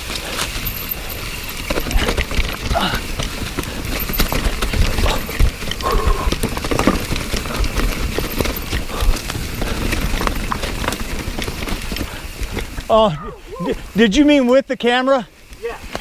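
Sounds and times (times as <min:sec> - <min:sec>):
bike rattling and knocking: 0:00.0 - 0:16.0
bike tyres rumbling over trail: 0:00.0 - 0:16.0.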